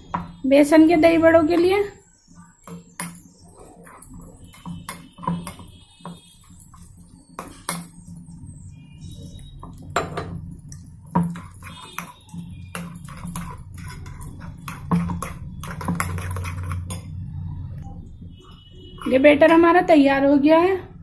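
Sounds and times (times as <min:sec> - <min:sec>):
spoon stirring batter in glass bowl: 0:00.0 - 0:17.2.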